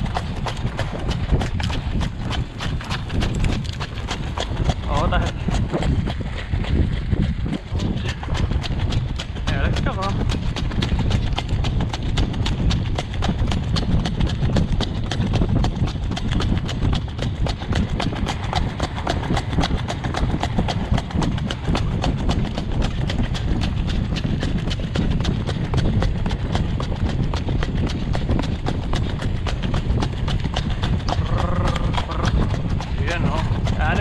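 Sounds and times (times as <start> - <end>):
horse hooves trotting on road: 0.0 - 34.0
low rumble: 0.0 - 34.0.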